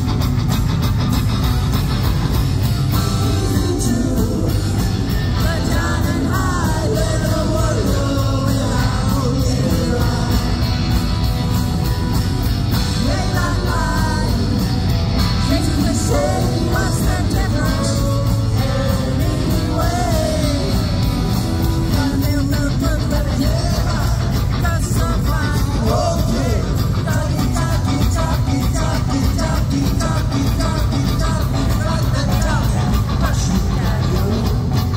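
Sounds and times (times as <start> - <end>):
live rock band playing: 0.0 - 34.9
man singing: 2.9 - 11.0, 12.8 - 21.2, 21.8 - 34.9.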